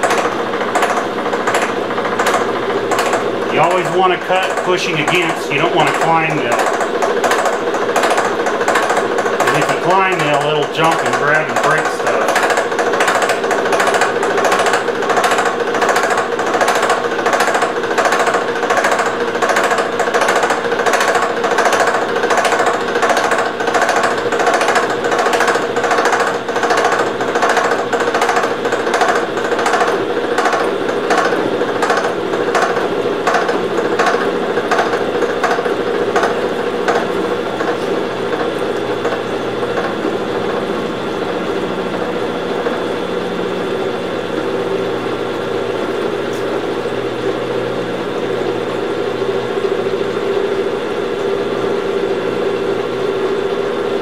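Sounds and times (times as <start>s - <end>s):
gear cutter knocking chatter: 0.0s - 50.2s
steady machine hum: 0.0s - 54.0s.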